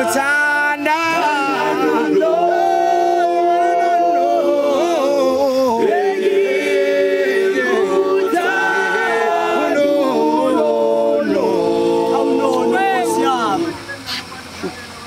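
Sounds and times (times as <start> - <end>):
male a cappella group singing: 0.0 - 13.8.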